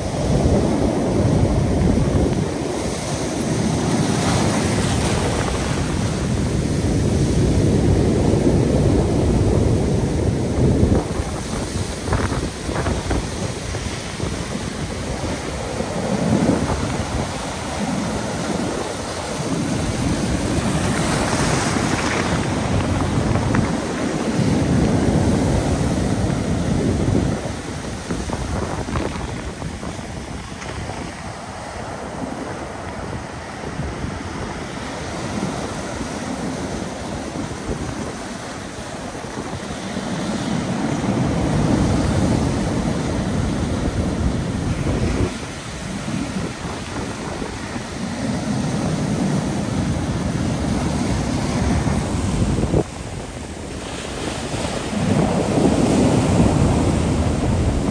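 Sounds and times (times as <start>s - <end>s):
waves crashing on pebble beach: 0.0s - 57.9s.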